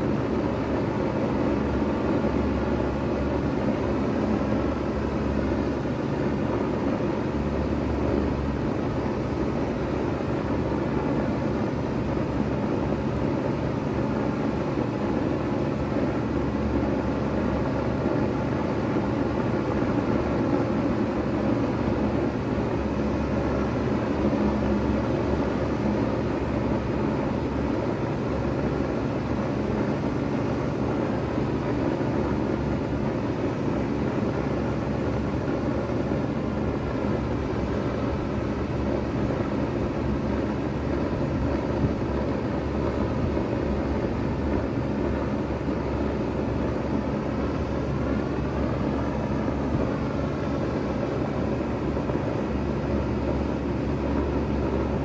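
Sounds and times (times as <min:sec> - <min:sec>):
compressor hum: 0:00.0 - 0:55.0
fan air rushing: 0:00.0 - 0:55.0.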